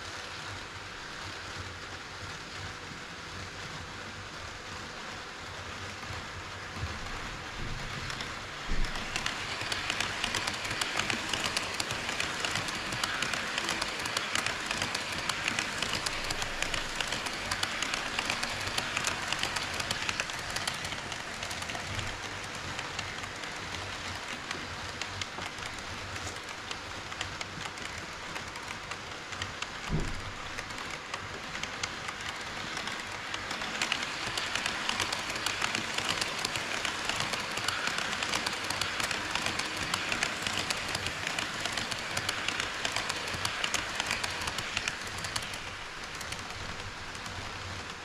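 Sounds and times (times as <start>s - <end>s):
model train running: 0.0s - 48.0s
wheels clicking over rail joints: 7.6s - 48.0s.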